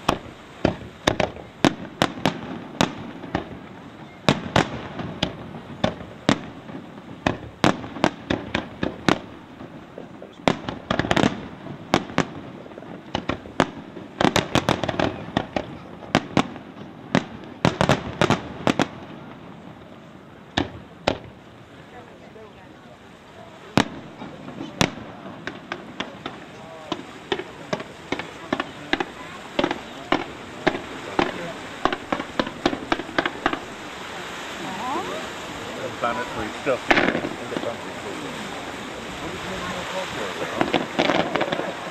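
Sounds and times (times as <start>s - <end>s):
firework bangs: 0.0s - 22.7s, 23.4s - 41.9s
firework rumble: 0.0s - 41.9s.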